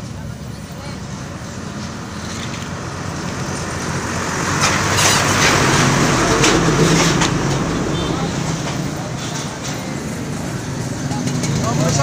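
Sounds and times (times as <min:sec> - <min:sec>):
vehicle engine and tyre noise: 0:00.0 - 0:12.0.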